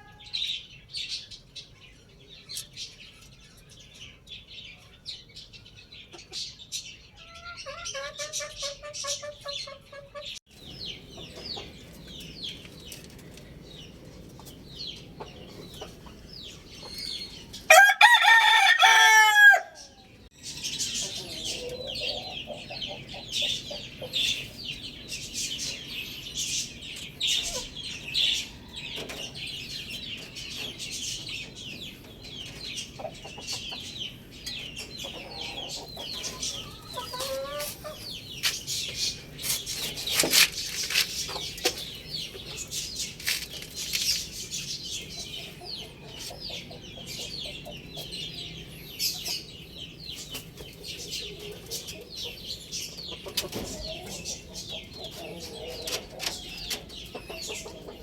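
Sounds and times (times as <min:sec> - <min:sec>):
chickens clucking: 0:04.0 - 0:58.0.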